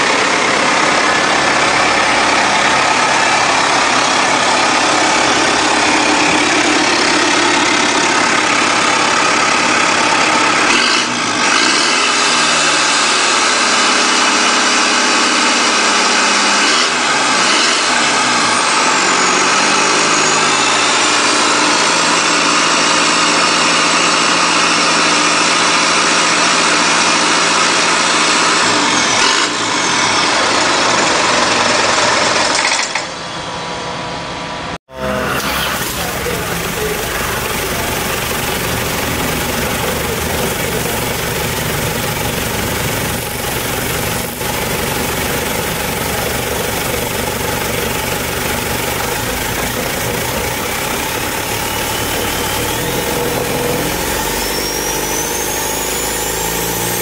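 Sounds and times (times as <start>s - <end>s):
diesel engine running and revving: 0.0s - 57.0s.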